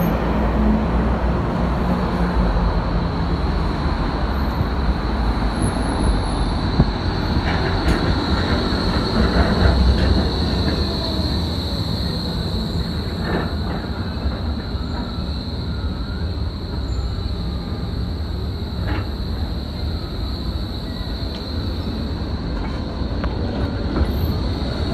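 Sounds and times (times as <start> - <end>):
tram rumbling and braking: 0.0 - 24.9.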